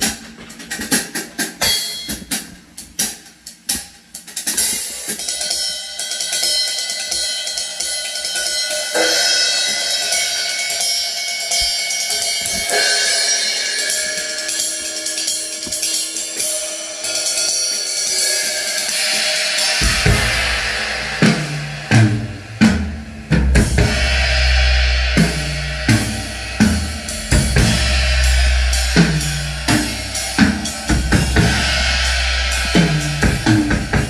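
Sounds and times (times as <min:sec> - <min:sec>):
drum-heavy music with deep bass: 0:00.0 - 0:34.0.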